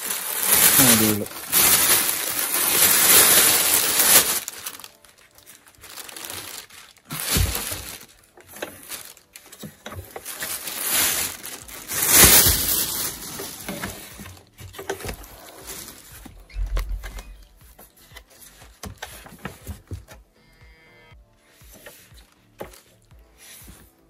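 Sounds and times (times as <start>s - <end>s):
plastic and foam crinkling: 0.0s - 20.2s, 21.4s - 24.0s.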